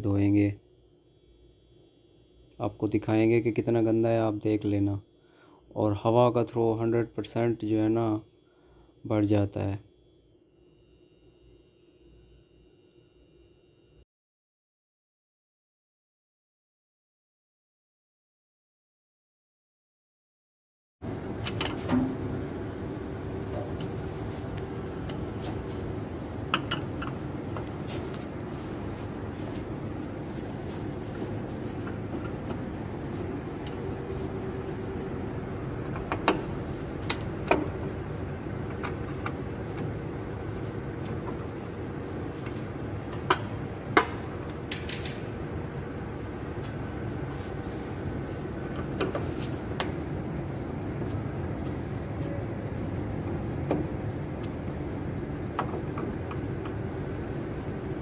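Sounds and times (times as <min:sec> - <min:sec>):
low machine hum: 0:00.0 - 0:14.0, 0:21.0 - 0:58.0.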